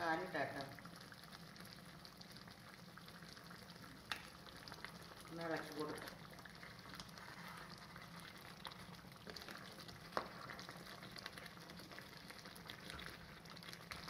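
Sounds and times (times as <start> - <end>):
food sizzling in a pan: 0.0 - 14.0
gravy popping: 0.8 - 14.0.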